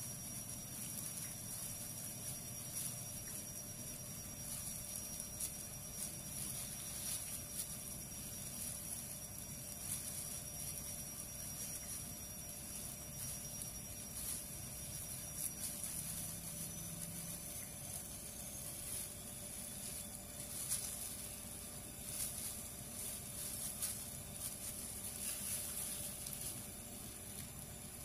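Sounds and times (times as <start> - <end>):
low steady hiss: 0.0 - 28.0
plastic glove crackling and rustling: 0.0 - 28.0.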